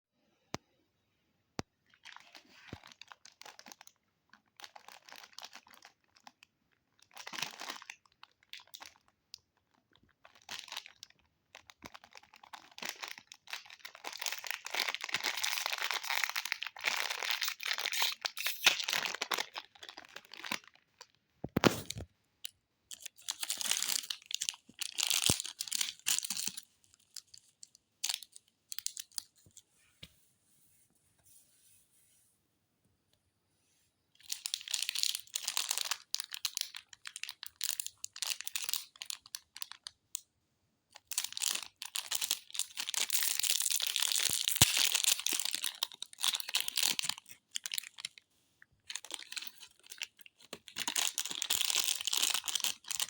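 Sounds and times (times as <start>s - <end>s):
plastic packaging crinkling: 1.8s - 22.1s, 22.9s - 29.5s, 34.2s - 40.0s, 41.0s - 48.2s, 48.8s - 53.0s.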